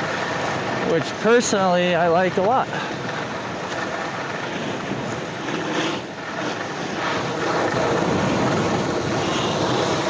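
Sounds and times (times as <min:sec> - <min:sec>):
skis scraping on snow: 0:00.0 - 0:10.0.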